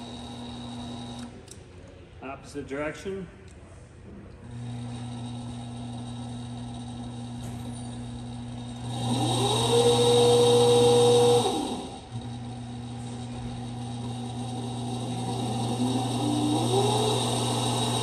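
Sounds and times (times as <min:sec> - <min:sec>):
motor whine: 0:00.0 - 0:01.4, 0:04.4 - 0:18.0
electric table drive humming: 0:00.0 - 0:01.5, 0:04.4 - 0:18.0.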